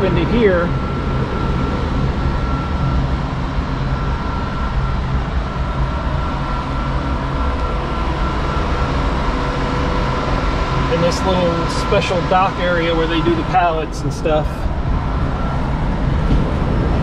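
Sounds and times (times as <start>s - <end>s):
diesel truck engine running: 0.0s - 17.0s
thin high whine: 0.0s - 17.0s.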